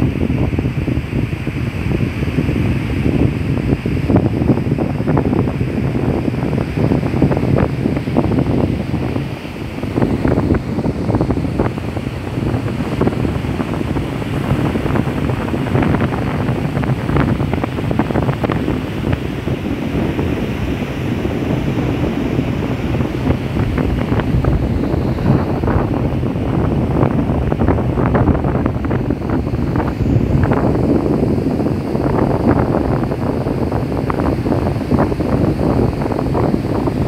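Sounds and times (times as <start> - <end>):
ocean surf breaking on beach: 0.0 - 37.0
wind buffeting microphone: 0.0 - 37.0.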